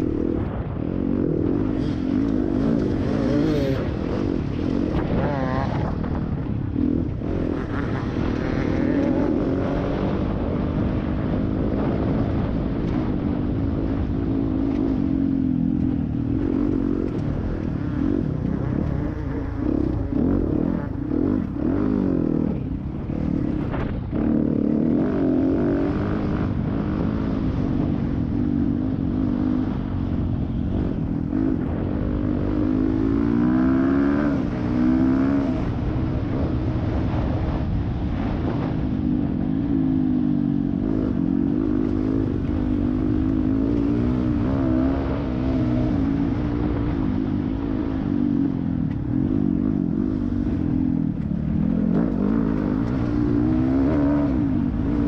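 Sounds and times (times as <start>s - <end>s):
dirt bike engine revving: 0.0s - 55.0s
wind rumble on microphone: 0.0s - 55.0s.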